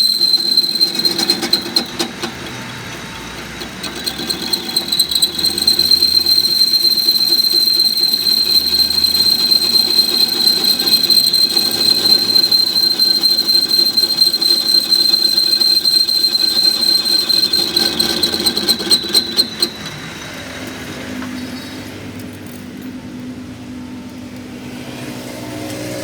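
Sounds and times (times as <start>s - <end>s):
high-pitched mechanical whine: 0.0s - 22.8s.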